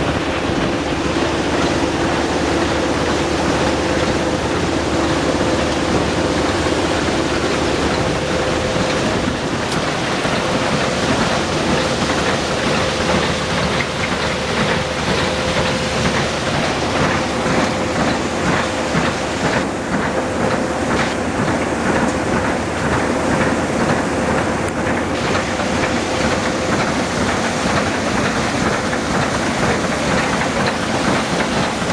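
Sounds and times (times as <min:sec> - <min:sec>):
mechanical hum: 0:00.0 - 0:31.9
water and gravel rushing: 0:00.0 - 0:31.9.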